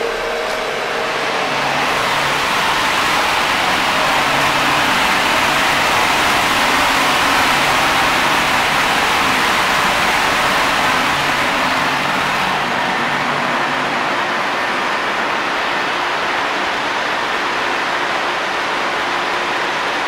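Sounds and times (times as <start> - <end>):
engine-room machinery roaring: 0.0 - 20.0.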